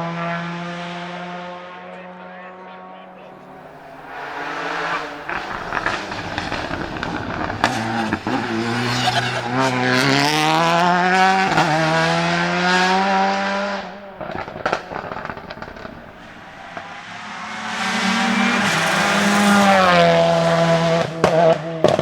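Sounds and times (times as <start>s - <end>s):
race car engine accelerating: 0.0s - 22.0s
exhaust pops and crackles: 3.5s - 22.0s.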